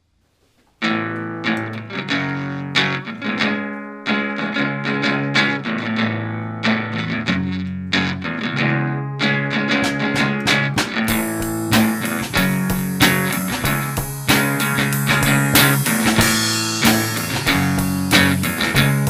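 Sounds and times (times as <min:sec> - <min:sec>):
strummed guitar chords: 0:00.8 - 0:19.0.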